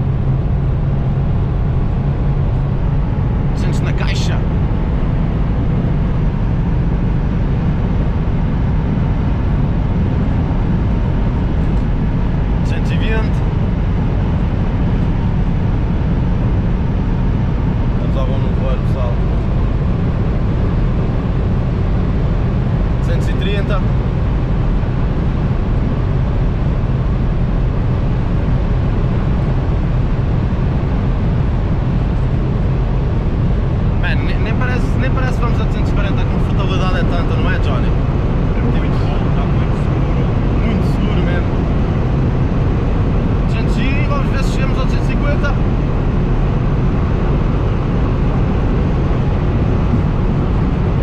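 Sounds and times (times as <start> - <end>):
wind rush inside car: 0.0 - 51.0.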